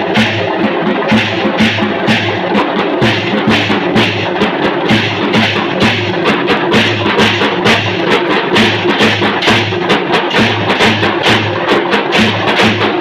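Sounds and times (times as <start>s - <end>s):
drums beating: 0.0s - 13.0s
hand cymbals clashing: 0.0s - 13.0s.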